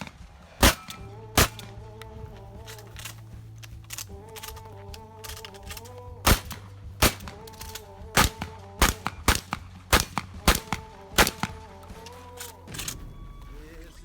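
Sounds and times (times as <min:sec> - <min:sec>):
shotgun shots: 0:00.0 - 0:02.0, 0:03.9 - 0:13.7
shotgun pump clicks: 0:00.0 - 0:13.0.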